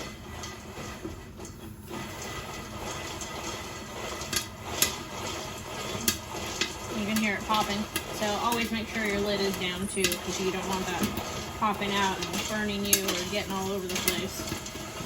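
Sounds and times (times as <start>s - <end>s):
popcorn kernels popping: 0.0s - 15.0s
popcorn pot crank rattling: 0.0s - 15.0s.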